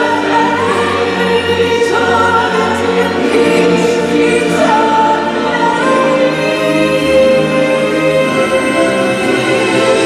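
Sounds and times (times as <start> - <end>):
choir singing over music: 0.0 - 10.0.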